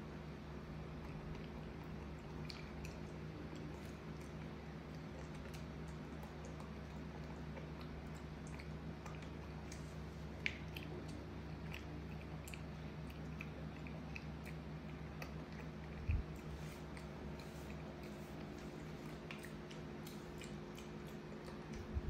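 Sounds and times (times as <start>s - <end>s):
low hum: 0.0s - 22.0s
monkey chewing and smacking: 0.7s - 22.0s.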